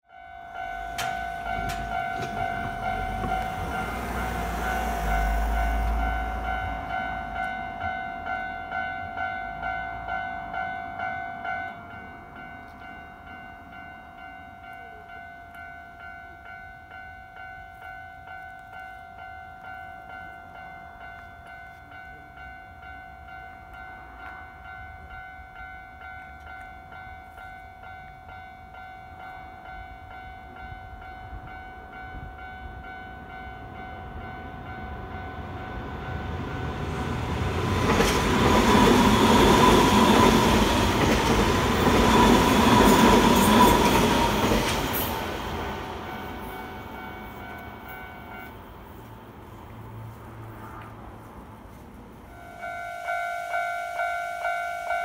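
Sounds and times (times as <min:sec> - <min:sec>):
level crossing warning bell: 0:00.1 - 0:49.2, 0:52.2 - 0:55.0
train passing: 0:00.1 - 0:55.0.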